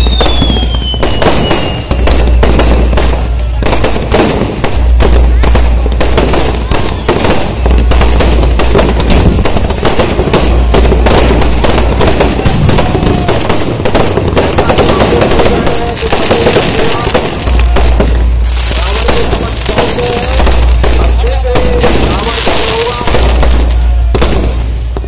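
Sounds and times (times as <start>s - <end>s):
firecrackers crackling bangs: 0.0s - 25.0s.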